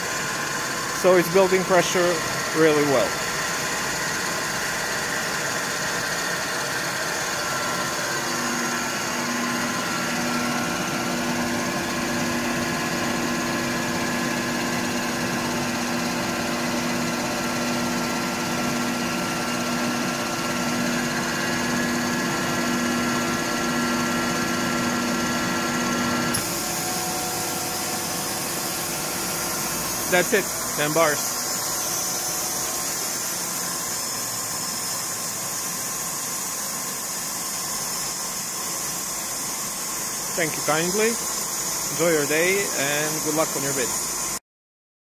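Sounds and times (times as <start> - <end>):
air compressor hum and whine: 0.0 - 44.4
compressor unloading: 0.2 - 24.8, 26.2 - 44.3.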